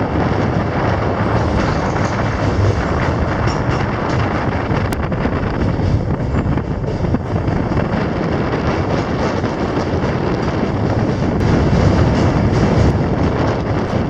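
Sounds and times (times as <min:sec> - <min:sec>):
train rumbling over bridge: 0:00.0 - 0:14.0
wind noise on microphone: 0:00.0 - 0:14.0.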